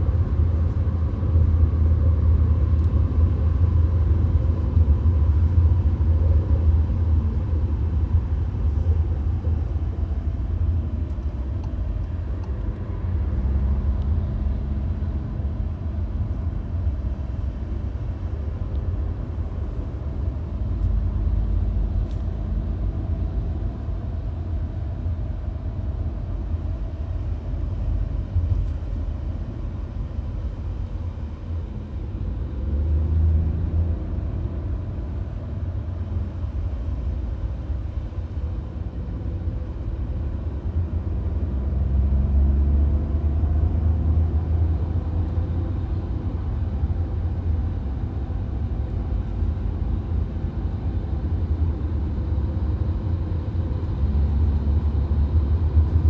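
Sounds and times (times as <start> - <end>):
faint engine drone: 0.0 - 56.0
road and tyre rumble: 0.0 - 56.0.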